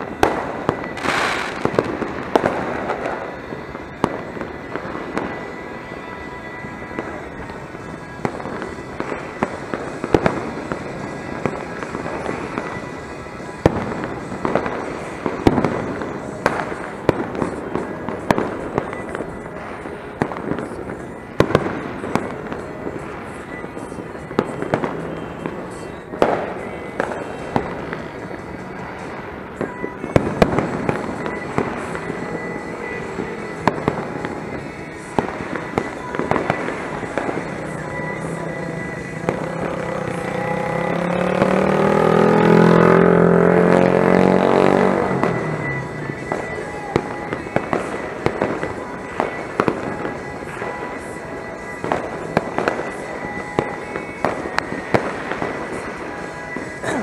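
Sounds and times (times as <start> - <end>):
firecrackers and fireworks popping: 0.0 - 57.0
loud fireworks bangs: 0.0 - 57.0.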